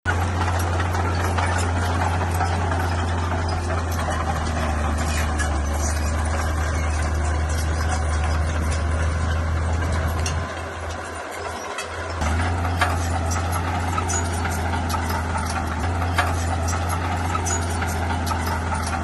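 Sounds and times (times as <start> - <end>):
bulldozer diesel engine humming: 0.0 - 19.0.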